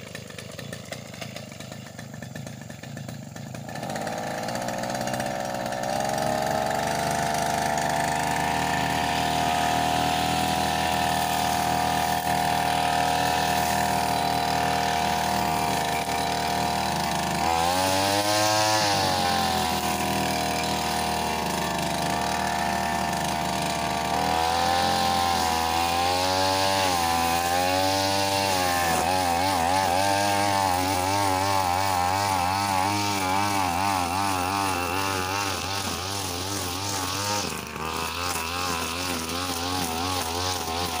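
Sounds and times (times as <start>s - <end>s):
brush cutter engine cutting grass: 0.0s - 41.0s.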